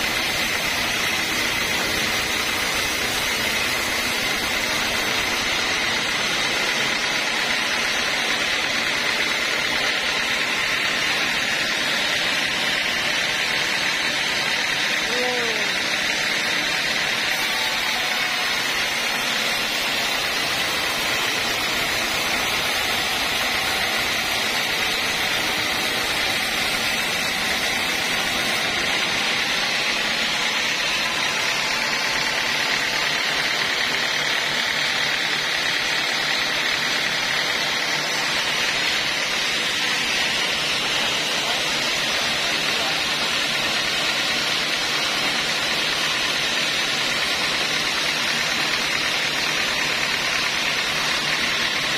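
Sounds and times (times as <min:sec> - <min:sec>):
band sawmill running: 0:00.0 - 0:51.9.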